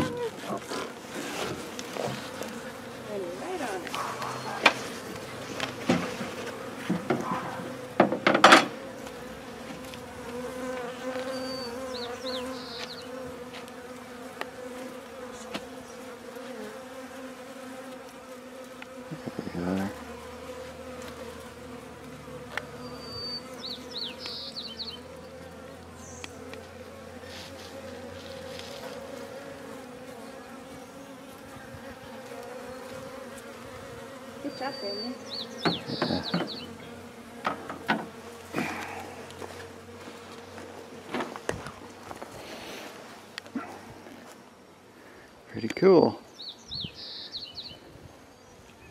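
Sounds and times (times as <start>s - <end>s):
bees buzzing: 0.0s - 47.8s.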